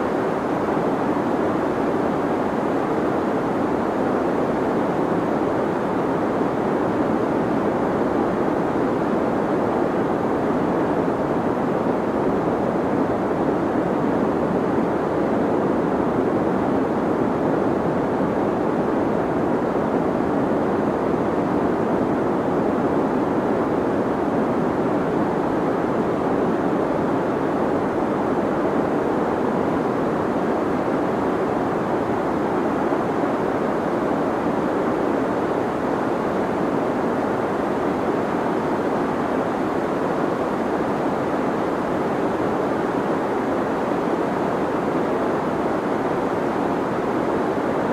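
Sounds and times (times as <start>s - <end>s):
deep white noise: 0.0s - 47.9s.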